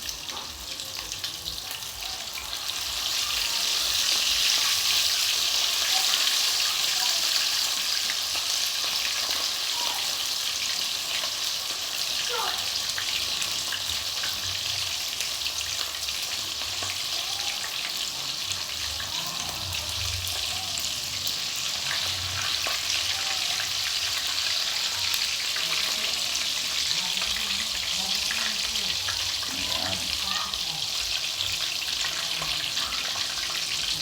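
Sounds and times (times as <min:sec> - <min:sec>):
gravy sizzling in a saucepan: 0:00.0 - 0:34.0.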